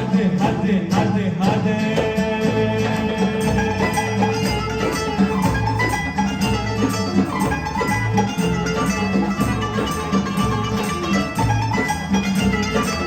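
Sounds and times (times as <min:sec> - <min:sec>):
live band playing pop music: 0:00.0 - 0:13.0
plucked strings: 0:00.0 - 0:13.0.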